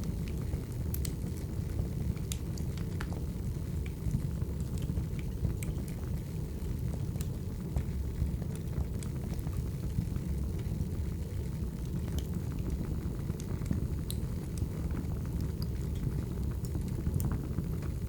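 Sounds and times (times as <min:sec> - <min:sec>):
fire rumbling: 0:00.0 - 0:18.0
logs crackling and popping: 0:00.0 - 0:18.0.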